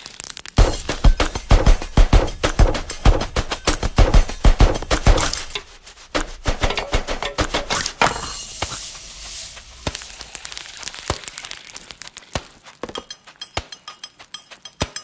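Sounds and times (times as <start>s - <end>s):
sharp snaps and pops: 0.0s - 6.7s, 8.6s - 15.0s
dense crackling hiss: 0.0s - 14.8s.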